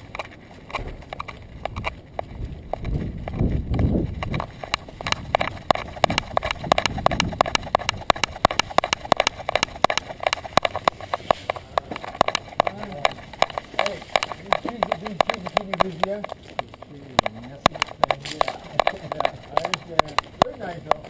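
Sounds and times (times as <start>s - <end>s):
dog claws clicking while trotting: 0.0s - 21.0s.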